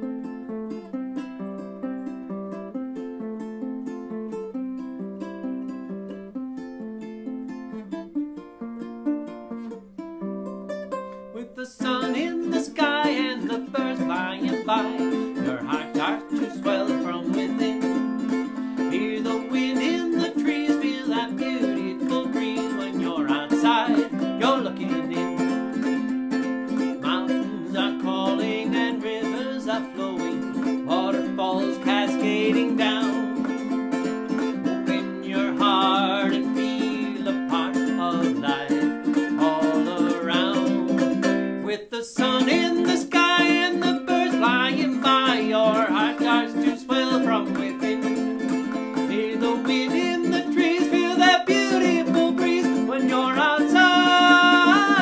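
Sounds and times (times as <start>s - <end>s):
ukulele strumming chords: 0.0s - 55.0s.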